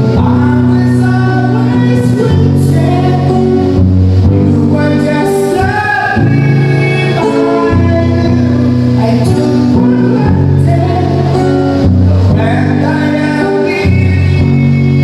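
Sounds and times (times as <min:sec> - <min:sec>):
acoustic guitar strumming: 0:00.0 - 0:15.0
man singing into microphone: 0:00.0 - 0:15.0.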